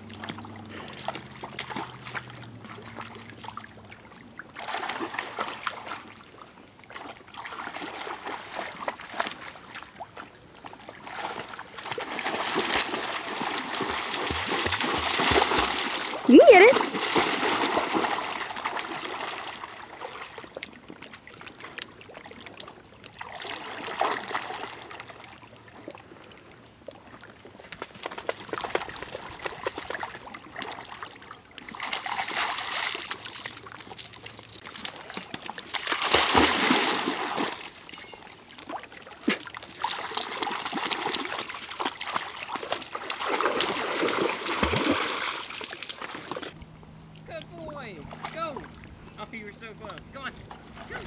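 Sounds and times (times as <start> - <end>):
dogs splashing through water: 0.0 - 47.2, 50.4 - 51.0.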